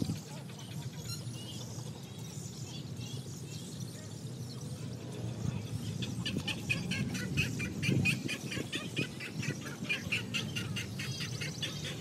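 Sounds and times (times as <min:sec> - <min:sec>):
bird rapid repeated calls: 0:00.0 - 0:12.0
birds chirping: 0:00.0 - 0:12.0.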